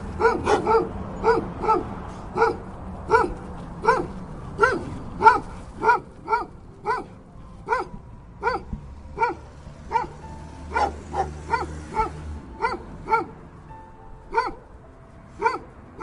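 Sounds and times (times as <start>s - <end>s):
dog barking: 0.2s - 13.4s, 14.3s - 14.7s, 15.4s - 15.7s.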